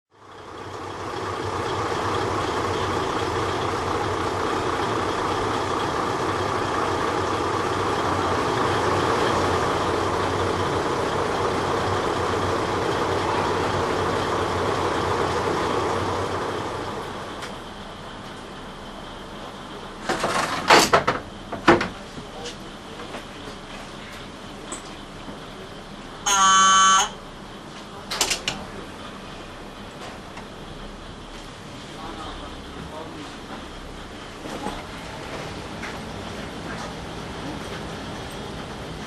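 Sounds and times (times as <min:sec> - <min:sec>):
railcar diesel engine: 0:00.1 - 0:39.0
wheel and rail noise: 0:00.2 - 0:39.0.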